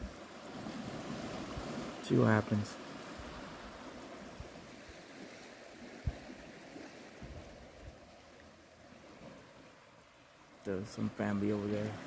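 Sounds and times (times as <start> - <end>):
water rushing and churning: 0.0 - 12.0.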